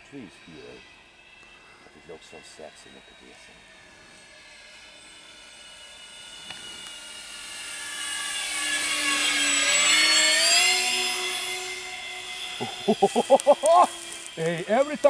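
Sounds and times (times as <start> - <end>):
model plane electric motors whining: 0.0 - 15.0.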